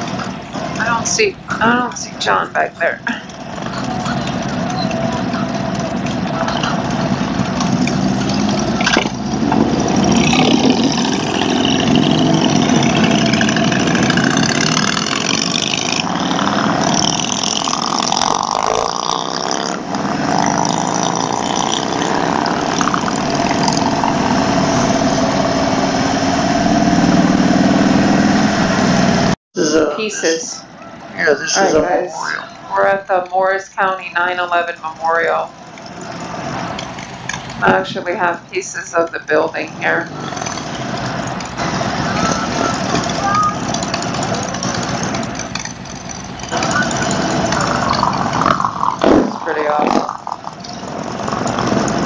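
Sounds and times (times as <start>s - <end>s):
motorcycle engine running: 0.0s - 29.4s, 34.1s - 52.0s
wind and road noise: 0.0s - 52.0s.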